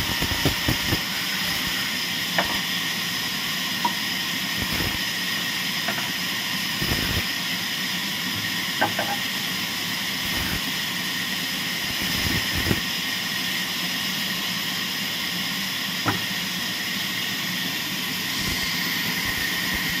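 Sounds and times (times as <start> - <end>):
band saw whirring: 0.0 - 13.8, 15.8 - 20.0.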